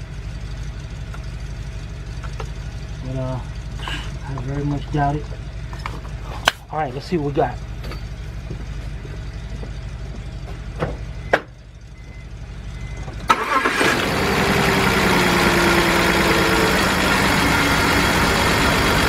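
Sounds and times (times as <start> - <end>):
car engine starting and idling: 0.0 - 19.0.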